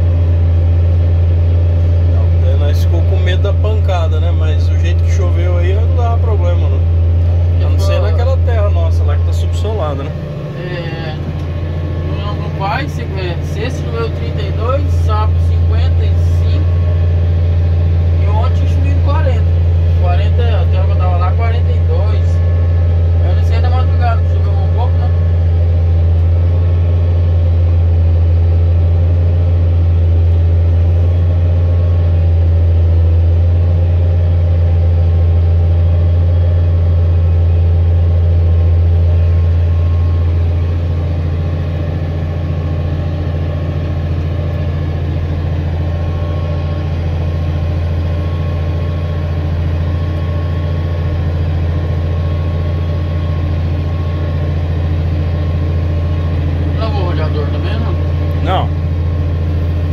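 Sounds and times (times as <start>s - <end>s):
tractor engine droning: 0.0s - 59.9s.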